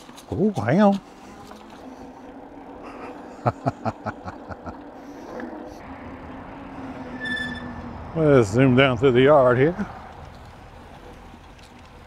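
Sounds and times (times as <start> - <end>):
e-bike motor hum: 0.0 - 12.0.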